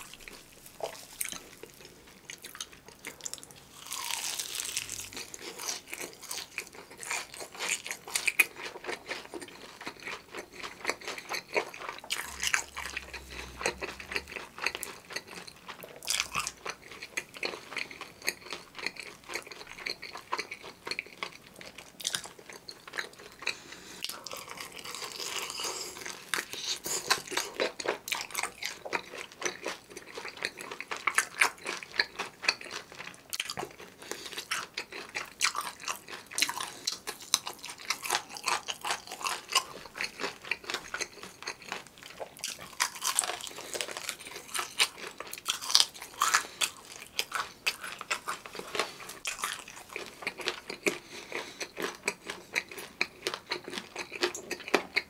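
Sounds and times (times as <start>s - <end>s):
crunchy chewing of fried chicken: 0.0s - 55.0s.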